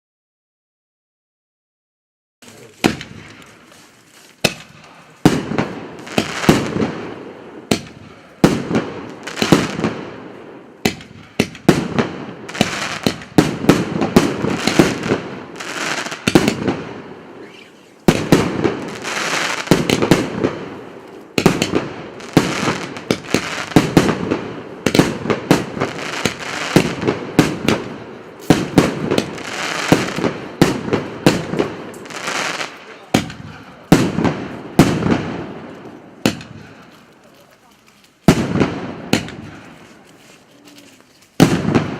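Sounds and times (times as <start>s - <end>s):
firework shots: 2.4s - 3.7s, 4.4s - 37.3s, 38.1s - 40.1s, 40.9s - 41.9s
firework bursts and crackling: 2.4s - 41.9s.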